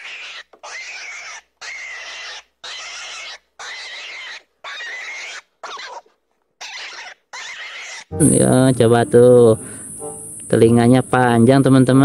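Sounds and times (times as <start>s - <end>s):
hissy rabbit calls: 0.0s - 11.4s.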